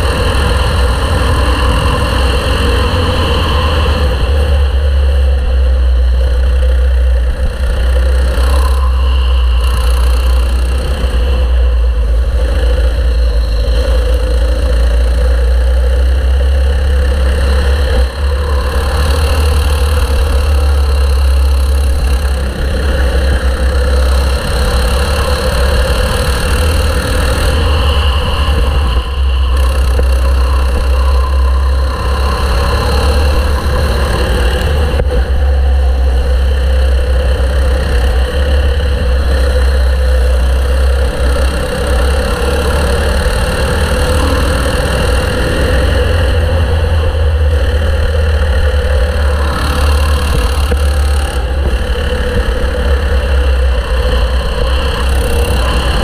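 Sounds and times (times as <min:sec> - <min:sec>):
go-kart engine running: 0:00.0 - 0:56.0.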